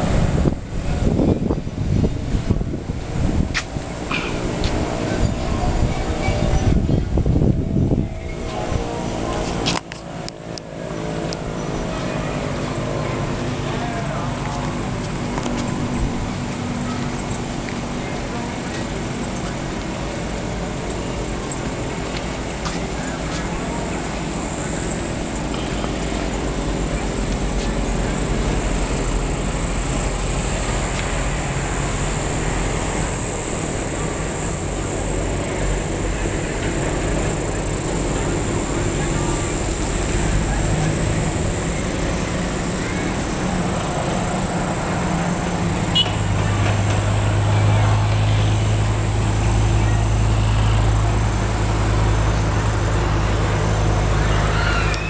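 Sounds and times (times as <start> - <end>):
low motor hum: 0.0 - 55.0
high-pitched drone: 10.7 - 55.0.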